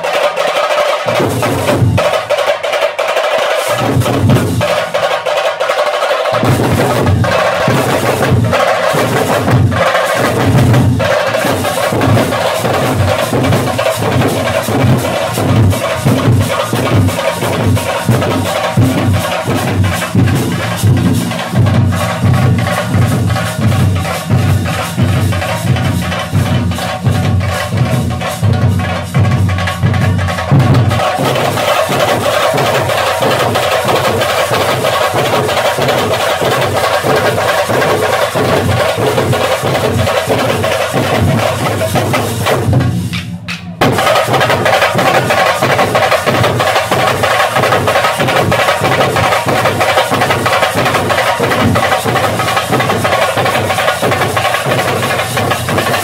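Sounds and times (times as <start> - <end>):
barrel drums beaten with sticks: 0.0 - 56.0.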